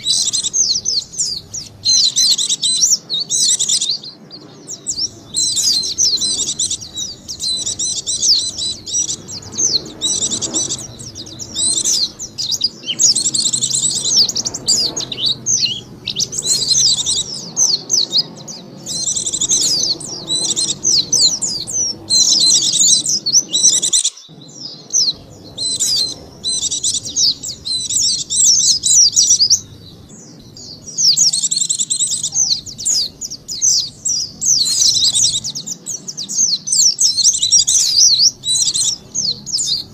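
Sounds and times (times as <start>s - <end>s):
bird chattering warbles: 0.0s - 39.9s.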